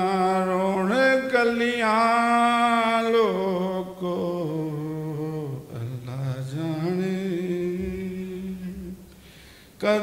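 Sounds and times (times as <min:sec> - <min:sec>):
man singing unaccompanied: 0:00.0 - 0:09.1, 0:09.8 - 0:10.0.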